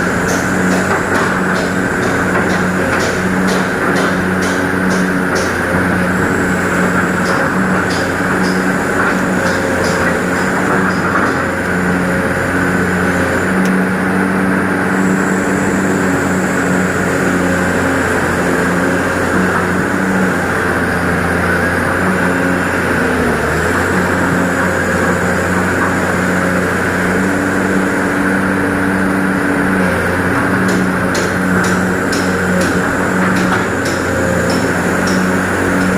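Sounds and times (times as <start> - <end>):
excavator diesel engine digging: 0.0 - 35.9.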